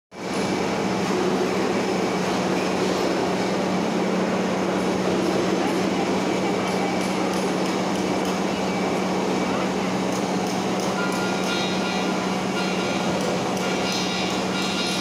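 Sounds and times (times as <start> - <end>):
workshop machinery drone: 0.1 - 15.0.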